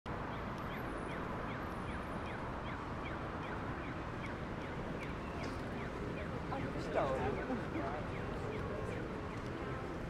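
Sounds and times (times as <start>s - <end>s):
city street hum: 0.1s - 10.0s.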